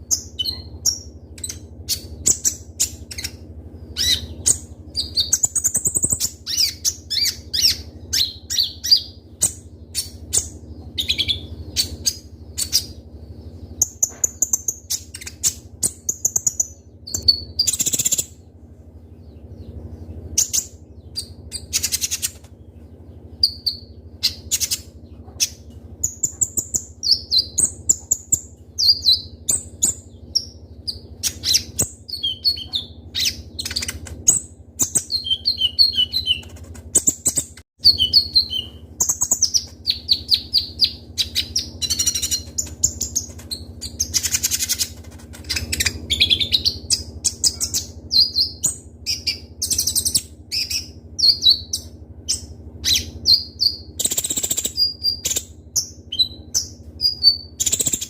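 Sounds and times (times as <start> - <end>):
bird chirps and trills: 0.0 - 58.0
steady low hum: 0.0 - 58.0.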